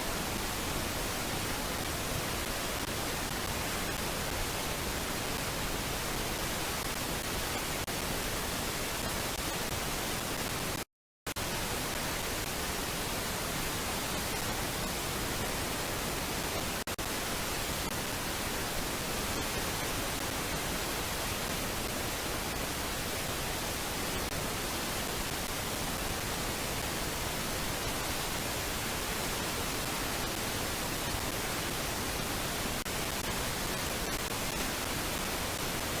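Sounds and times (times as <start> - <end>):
steady broadband hiss: 0.0 - 36.0.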